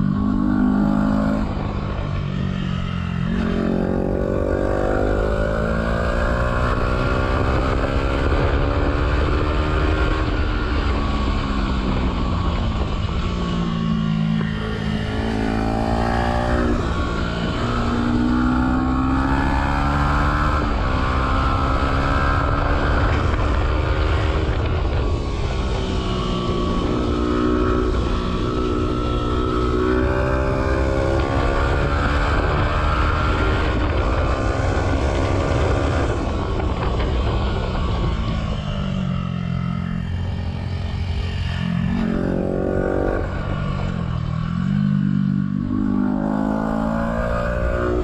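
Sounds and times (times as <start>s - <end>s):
motorcycle engine accelerating: 0.0s - 48.0s
wind rumble on microphone: 0.0s - 48.0s.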